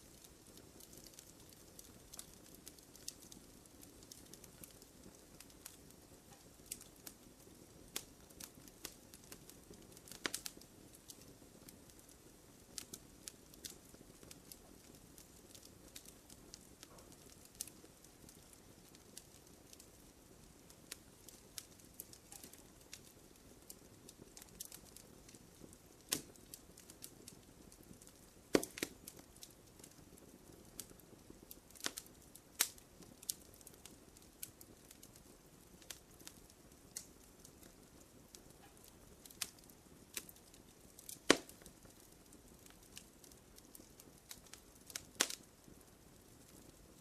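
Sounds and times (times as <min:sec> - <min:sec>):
campfire crackling: 0:00.0 - 0:47.0
faint low hiss: 0:00.0 - 0:47.0.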